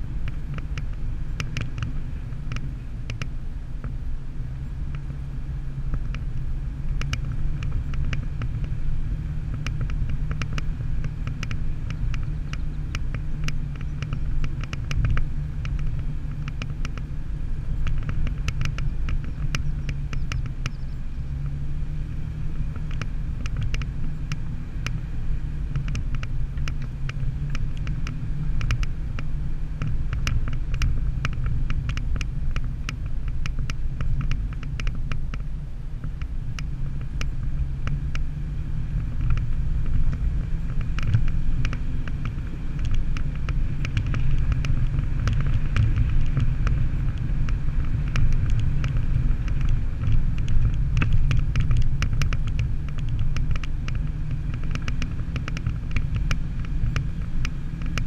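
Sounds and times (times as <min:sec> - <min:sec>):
vehicle engine low rumble: 0:00.0 - 0:58.0.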